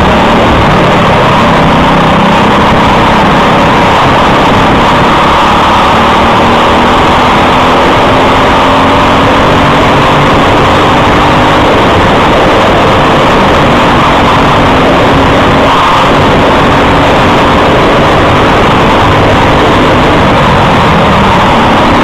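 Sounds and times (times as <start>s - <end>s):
kart engine running at speed: 0.0s - 22.0s
track rumble: 0.0s - 22.0s
wind: 0.0s - 22.0s.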